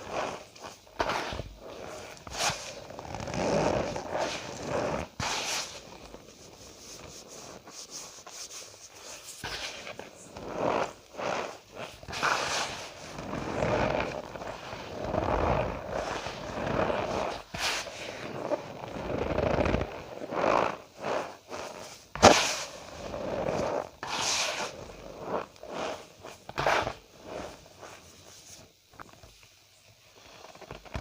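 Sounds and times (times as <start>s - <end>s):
squeaky crunching of powder: 0.0s - 29.3s.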